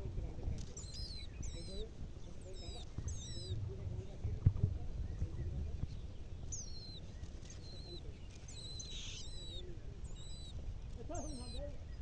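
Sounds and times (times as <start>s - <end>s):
low background rumble: 0.0s - 12.0s
nightingale chirping: 0.7s - 3.6s, 5.0s - 12.0s.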